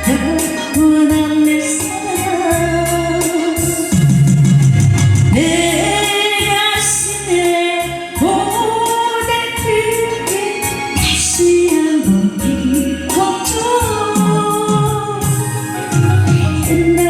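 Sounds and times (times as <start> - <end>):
woman singing pop song: 0.0 - 4.1, 5.3 - 17.0
backing track with bass and beat: 0.0 - 17.0.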